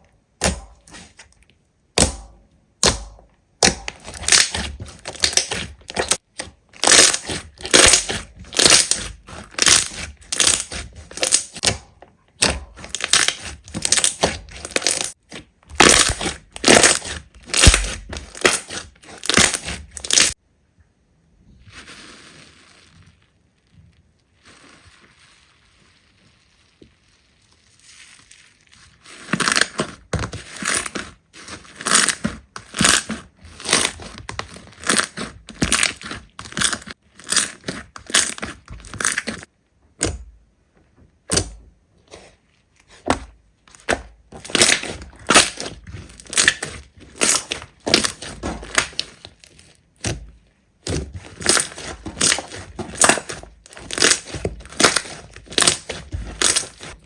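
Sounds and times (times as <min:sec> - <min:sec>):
slime crackling squeezed by hand: 0:03.6 - 0:06.2, 0:06.8 - 0:11.7, 0:12.4 - 0:20.4, 0:21.6 - 0:39.5, 0:43.7 - 0:50.2, 0:50.8 - 0:57.0.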